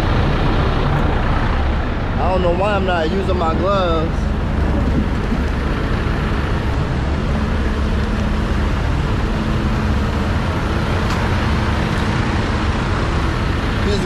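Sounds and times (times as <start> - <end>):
heavy diesel engine humming: 0.0 - 14.0.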